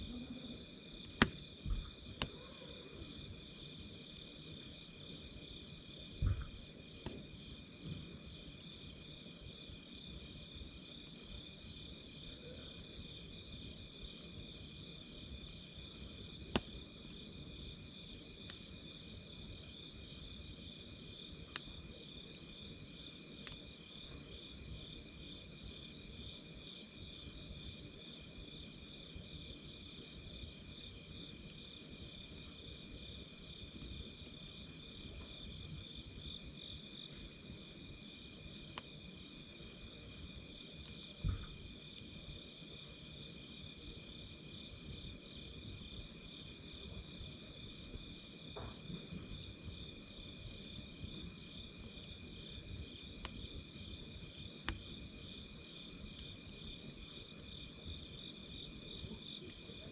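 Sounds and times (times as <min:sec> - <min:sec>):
insects trilling: 0:00.0 - 0:59.9
campfire wood popping: 0:00.8 - 0:02.4, 0:03.1 - 0:12.2, 0:13.1 - 0:26.6, 0:27.3 - 0:59.9.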